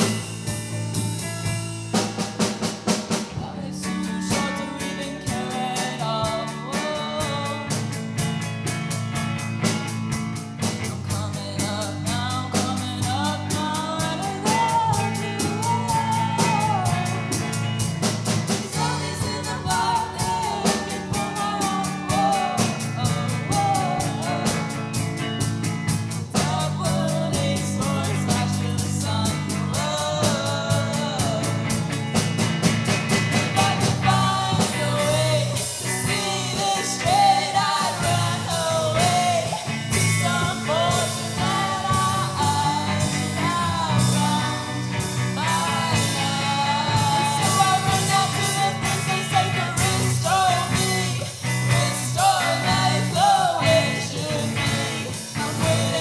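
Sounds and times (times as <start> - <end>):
drum kit cymbal beat: 0.0 - 56.0
electric bass: 0.0 - 56.0
electric guitar: 0.0 - 56.0
woman singing lead: 3.1 - 8.4, 10.7 - 56.0.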